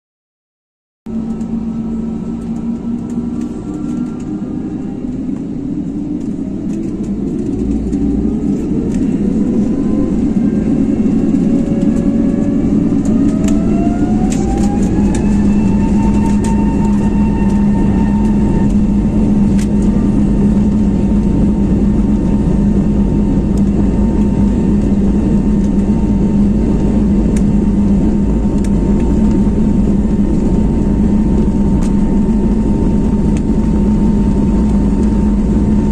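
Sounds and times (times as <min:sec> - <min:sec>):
constant low hum: 0:01.1 - 0:35.9
jet engines spooling up: 0:01.1 - 0:35.9.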